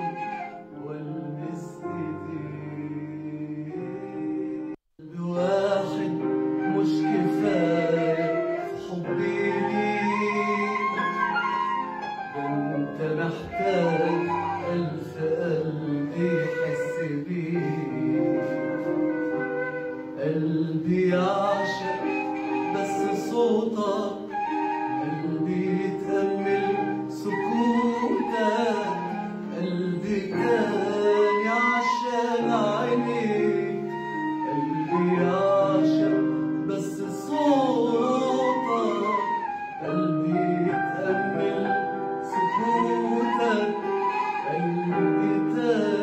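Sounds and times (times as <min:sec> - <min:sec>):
man singing: 0:00.0 - 0:46.0
instrumental backing: 0:05.5 - 0:46.0.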